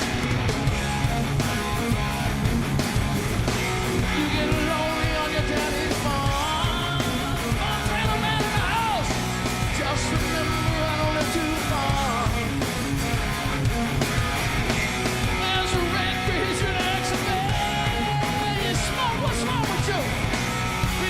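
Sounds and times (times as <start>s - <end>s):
bass guitar: 0.0s - 21.0s
drums: 0.0s - 21.0s
electric guitar with sliding notes: 0.0s - 21.0s.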